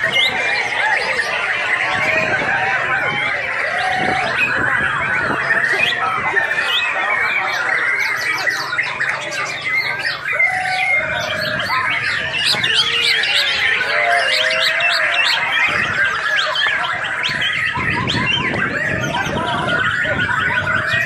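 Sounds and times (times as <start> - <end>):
bird singing chirps and trills: 0.0 - 21.0.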